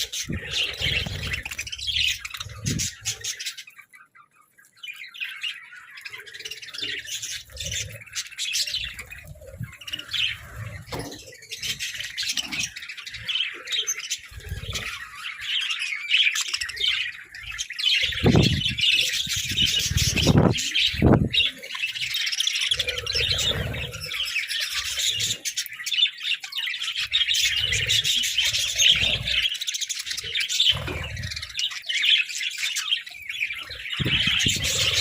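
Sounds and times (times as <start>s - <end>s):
budgerigars chirping and chattering: 0.0s - 35.0s.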